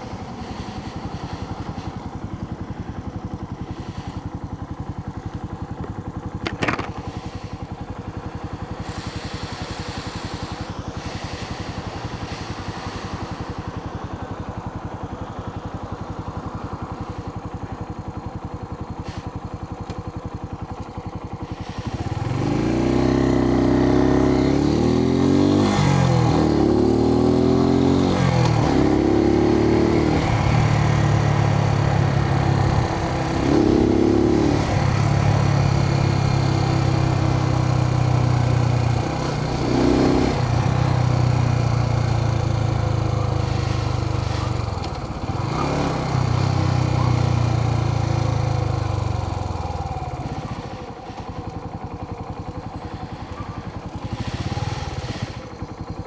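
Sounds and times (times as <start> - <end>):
motorcycle engine idling and accelerating: 0.0 - 56.0.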